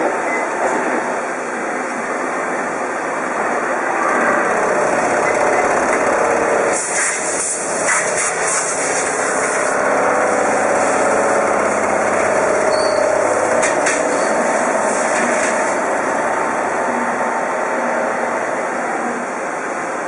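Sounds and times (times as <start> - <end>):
metal lathe running: 1.5 - 20.0.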